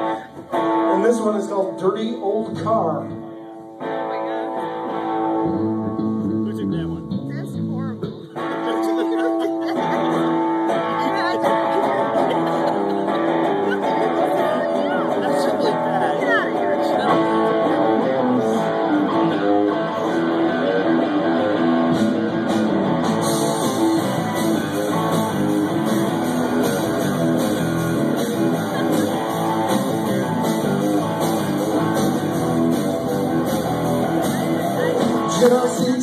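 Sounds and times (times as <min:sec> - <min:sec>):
electric guitar: 0:00.0 - 0:36.0
rock band playing: 0:00.0 - 0:36.0.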